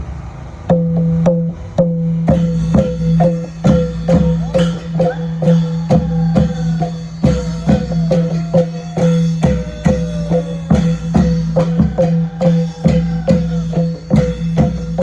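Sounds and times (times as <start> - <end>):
long drum strokes: 0.0 - 15.0.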